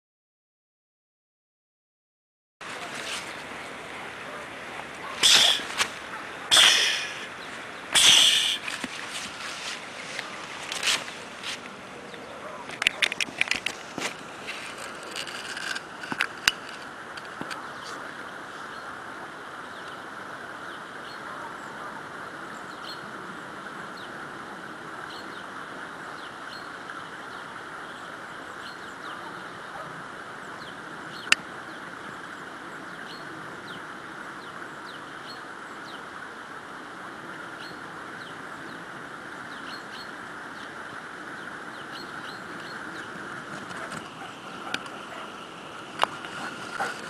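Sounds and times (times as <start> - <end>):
outdoor background hiss: 2.6 - 47.0.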